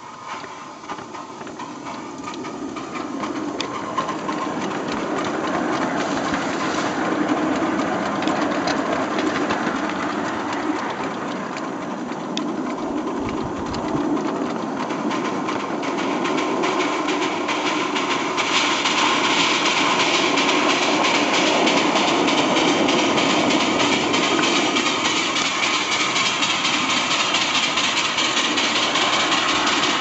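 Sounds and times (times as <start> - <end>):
small steam locomotive running: 0.0 - 30.0.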